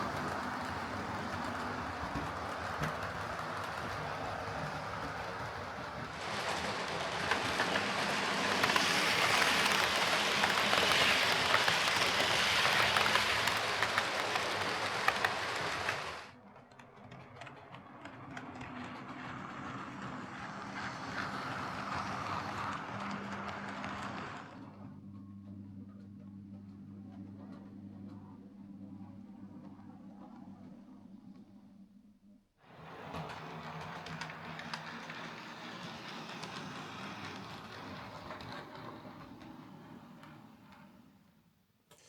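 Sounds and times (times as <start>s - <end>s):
model train running on track: 0.0s - 25.9s, 32.6s - 41.2s.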